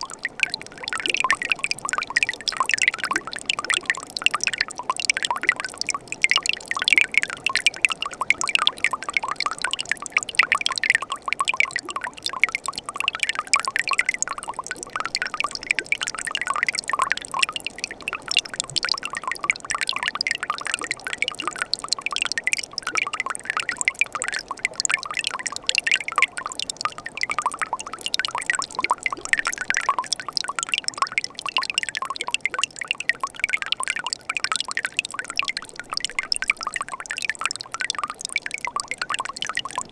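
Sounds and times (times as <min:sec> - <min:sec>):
small bright plinks: 0:00.0 - 0:39.9
stream trickling and splashing: 0:00.0 - 0:39.9.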